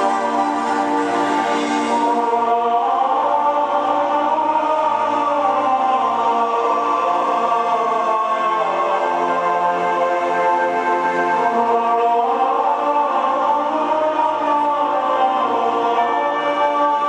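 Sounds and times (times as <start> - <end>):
choir-like voices holding chords: 0.0 - 17.0.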